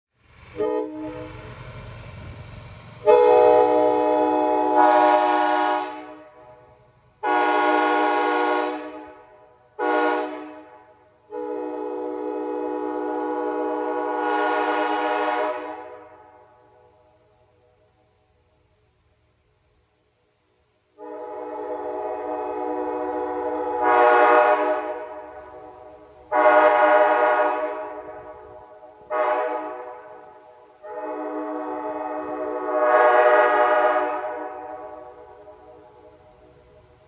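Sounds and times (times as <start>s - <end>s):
train horn chord blasts: 0.5s - 17.2s, 21.0s - 36.6s.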